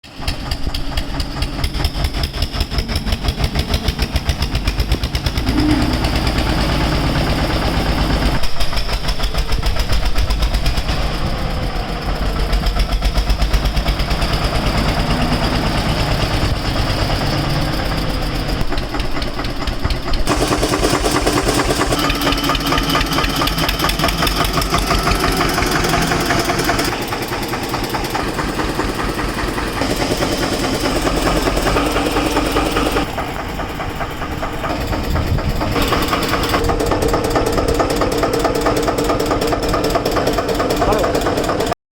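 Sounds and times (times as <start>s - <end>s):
diesel tractor engine idling: 0.0s - 41.8s.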